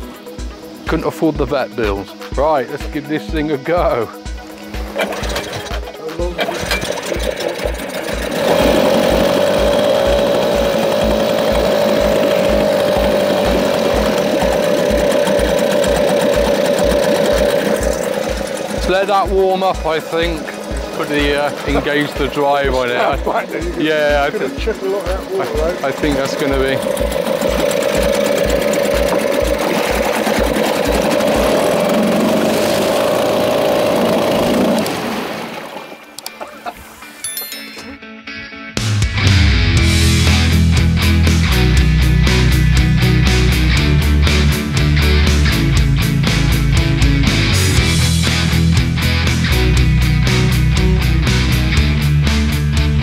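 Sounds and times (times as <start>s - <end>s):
outboard motor idling: 0.0s - 36.7s, 39.3s - 53.0s
propeller churning water: 0.0s - 36.7s, 40.5s - 52.1s.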